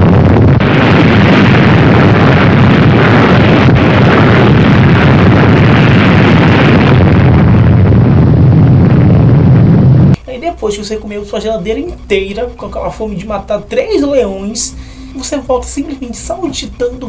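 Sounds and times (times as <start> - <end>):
deep explosion rumble: 0.0 - 10.2, 11.5 - 17.0.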